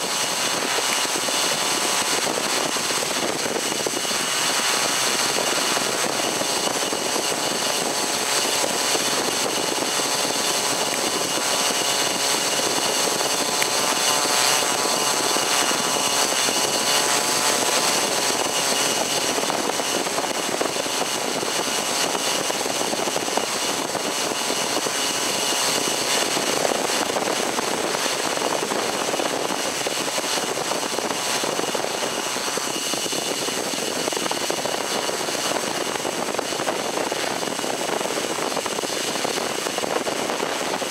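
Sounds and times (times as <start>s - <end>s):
drone motors and propellers whining: 0.0s - 40.9s.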